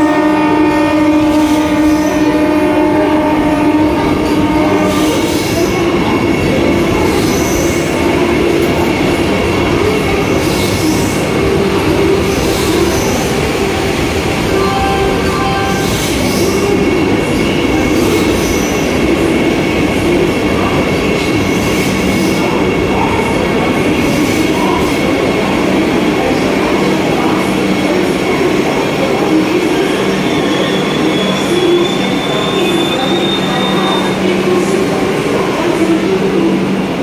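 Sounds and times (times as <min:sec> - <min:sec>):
electric train rumbling with hum: 0:00.0 - 0:37.0.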